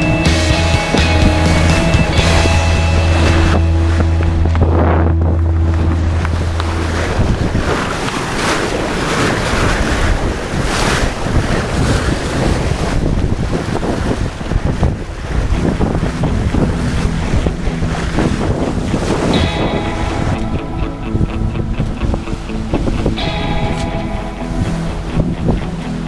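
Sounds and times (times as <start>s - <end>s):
sea water splashing along hull: 0.0s - 26.0s
wind buffeting microphone: 0.0s - 26.0s.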